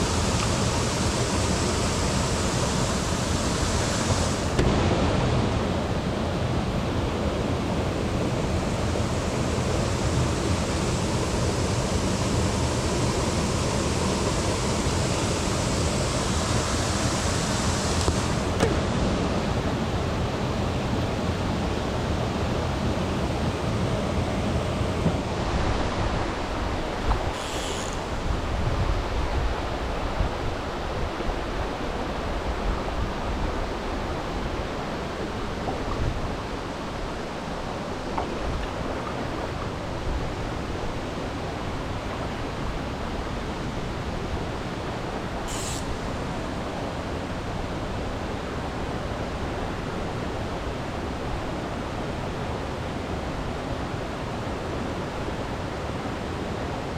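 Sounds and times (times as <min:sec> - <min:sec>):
mountain stream rushing: 0:00.0 - 0:56.9.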